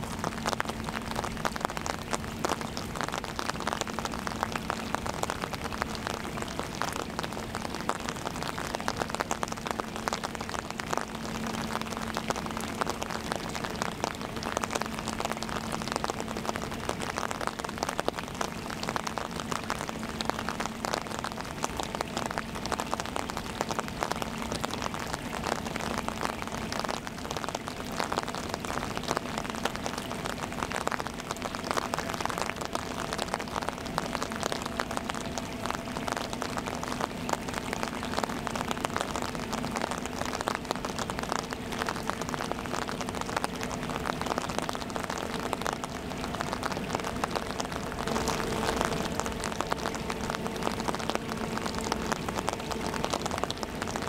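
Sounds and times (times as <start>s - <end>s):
rain pattering on an umbrella: 0.0s - 54.0s.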